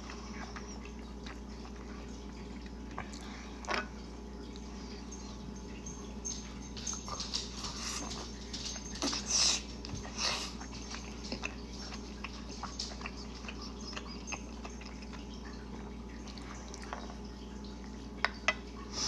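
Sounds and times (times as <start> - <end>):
mouth chewing noodles: 0.0 - 3.8, 4.5 - 19.0.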